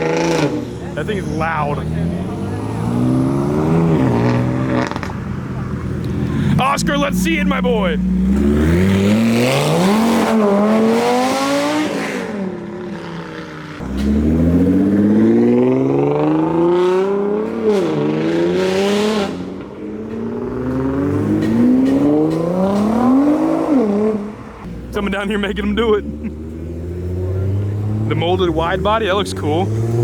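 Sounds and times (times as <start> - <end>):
car engines accelerating hard: 0.0 - 30.0.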